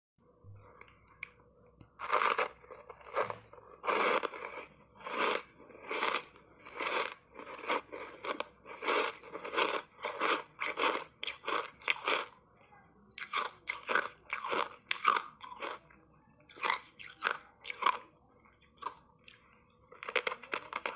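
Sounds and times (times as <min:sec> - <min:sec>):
ice crunching while chewed: 0:02.0 - 0:12.4, 0:13.2 - 0:20.9.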